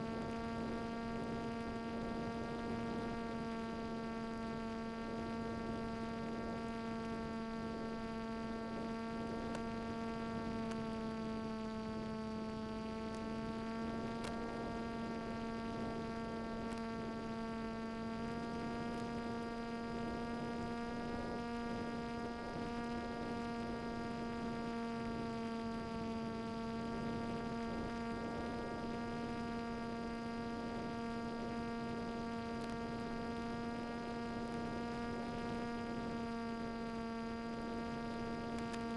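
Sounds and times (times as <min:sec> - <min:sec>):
electric motor and propeller drone: 0:00.0 - 0:38.9.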